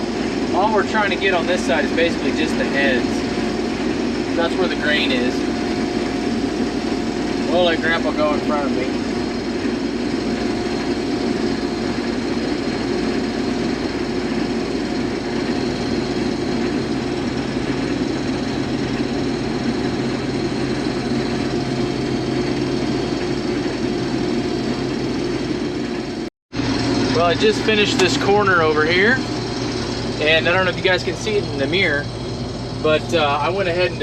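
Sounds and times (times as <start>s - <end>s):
combine harvester running under load: 0.0s - 34.0s
deeper hum: 0.0s - 34.0s.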